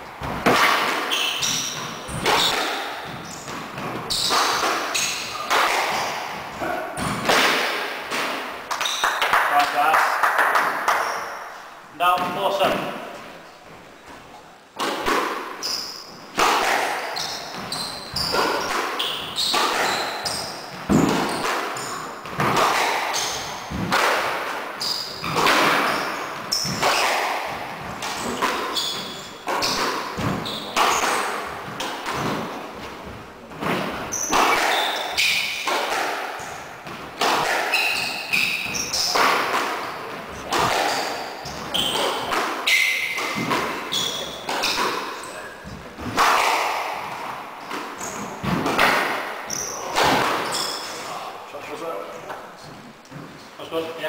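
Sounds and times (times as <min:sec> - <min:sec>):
shoes squeaking on wooden floor: 0:00.1 - 0:07.4, 0:12.0 - 0:54.0
squash ball hits: 0:00.2 - 0:09.5, 0:14.8 - 0:51.1.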